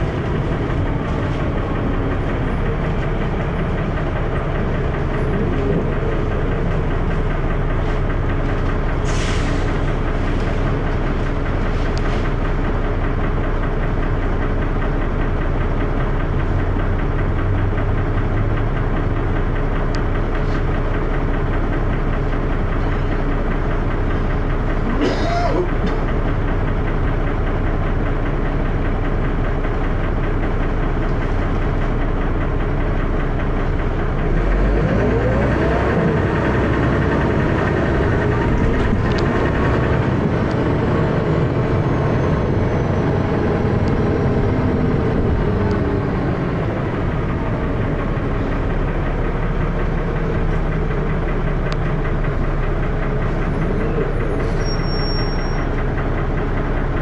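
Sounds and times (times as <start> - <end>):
diesel bus engine knocking: 0.0 - 57.0.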